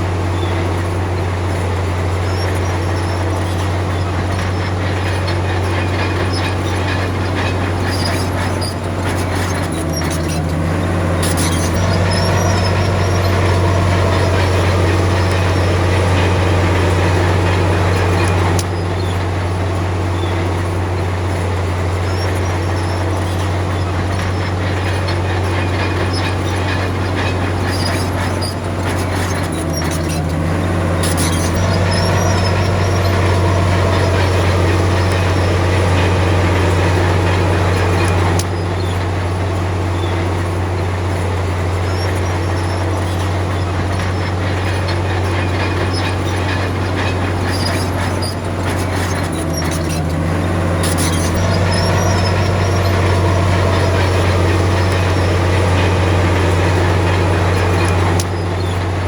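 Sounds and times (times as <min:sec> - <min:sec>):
bulldozer diesel engine: 0:00.0 - 0:59.0
steel tracks clanking and squeaking: 0:00.0 - 0:59.0.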